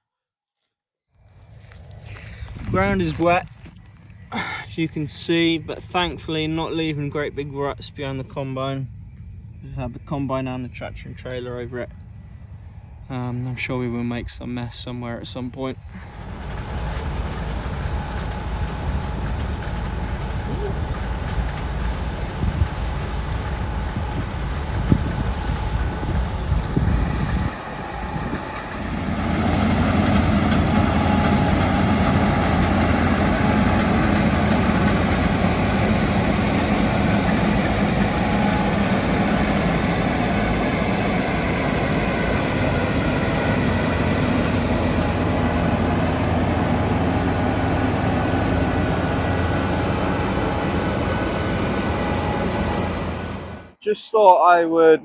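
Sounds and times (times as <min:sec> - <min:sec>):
diesel farm machinery engine: 0:01.3 - 0:09.9, 0:15.8 - 0:53.8.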